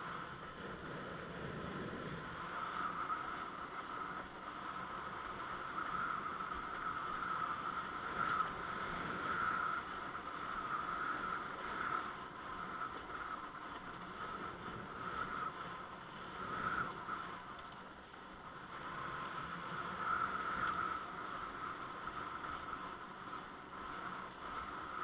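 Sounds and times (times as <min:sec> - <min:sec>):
water rushing along a board: 0:00.0 - 0:25.0.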